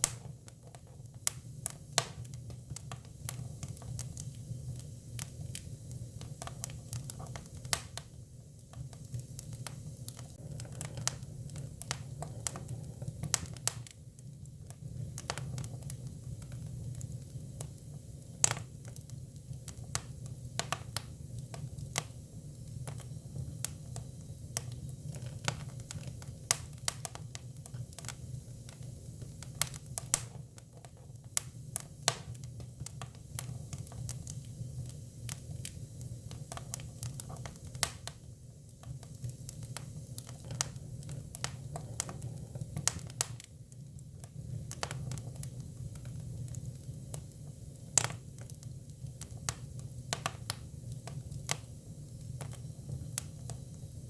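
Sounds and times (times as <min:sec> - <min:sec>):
firewood crackling and popping: 0:00.0 - 0:54.0.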